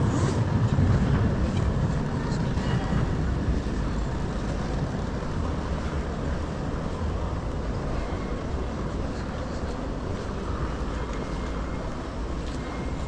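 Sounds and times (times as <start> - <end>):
city street low rumble: 0.0 - 13.0.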